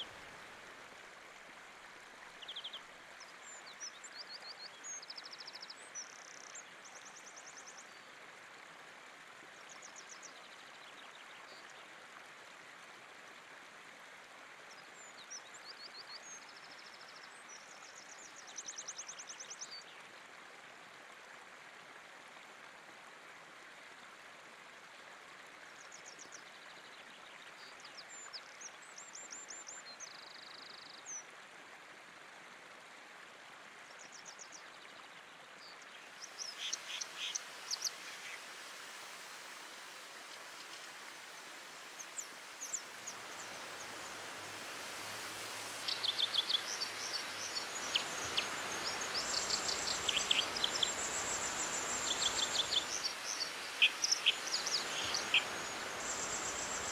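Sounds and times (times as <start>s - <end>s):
river water running over rocks: 0.0s - 56.9s.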